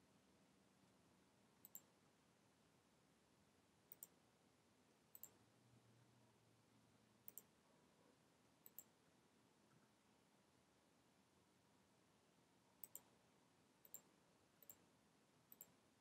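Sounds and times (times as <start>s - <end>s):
low room hiss: 0.0s - 16.0s.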